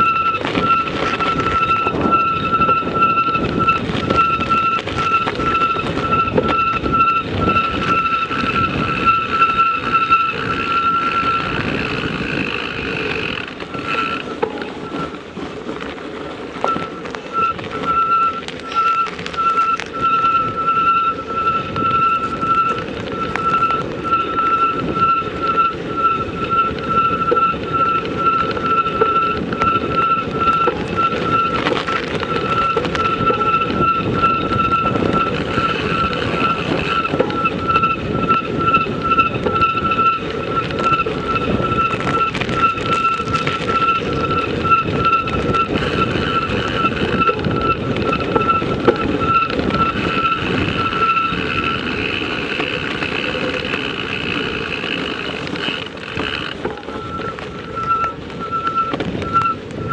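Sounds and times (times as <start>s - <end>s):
steady high whine: 0.0s - 59.9s
tyres rumbling on snowy road: 0.0s - 59.9s
wind: 0.0s - 59.9s.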